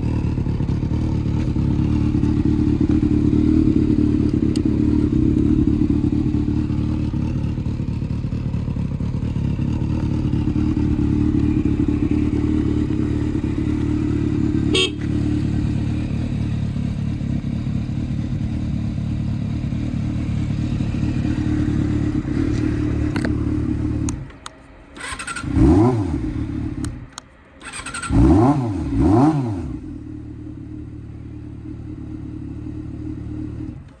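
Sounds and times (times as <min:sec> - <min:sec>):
engine throttle blips: 0:00.0 - 0:34.0
motorcycle engine idling: 0:00.0 - 0:34.0.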